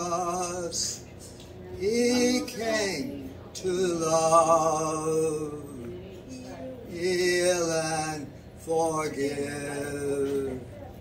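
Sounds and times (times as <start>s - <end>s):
man singing a hymn: 0.0s - 1.1s, 1.7s - 10.8s.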